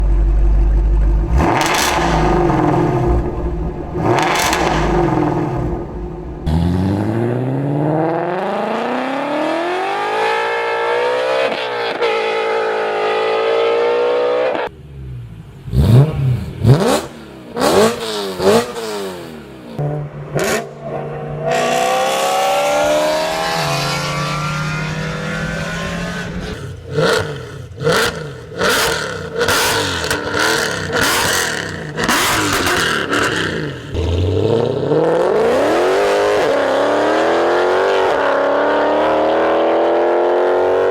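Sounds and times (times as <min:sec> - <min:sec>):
car exhaust revving: 0:00.0 - 0:11.3, 0:13.6 - 0:40.9.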